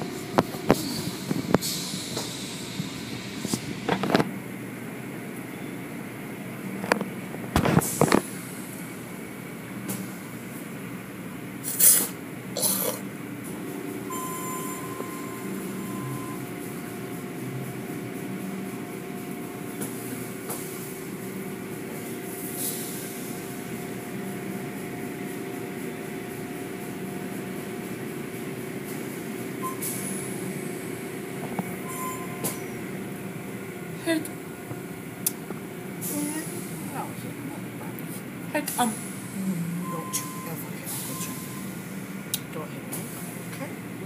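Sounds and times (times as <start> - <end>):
car wash machinery humming: 0.0 - 44.0.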